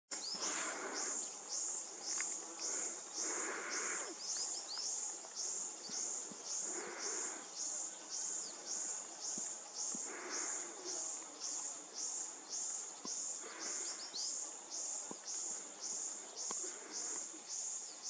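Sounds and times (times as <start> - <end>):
soft low hiss bursts: 0.1 - 18.0.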